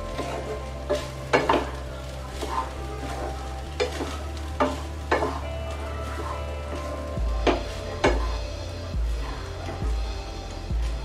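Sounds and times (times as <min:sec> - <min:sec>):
frying sizzle: 0:00.0 - 0:11.0
spatula scraping frying pan: 0:00.1 - 0:10.0.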